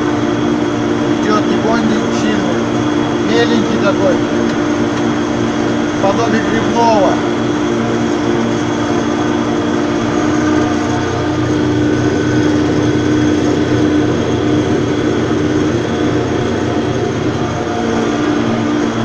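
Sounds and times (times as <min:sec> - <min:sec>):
tractor engine running: 0:00.4 - 0:19.0.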